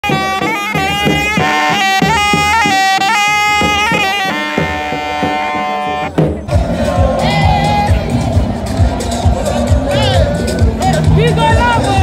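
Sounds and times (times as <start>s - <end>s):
shrill reedy wind pipe melody: 0.0s - 12.0s.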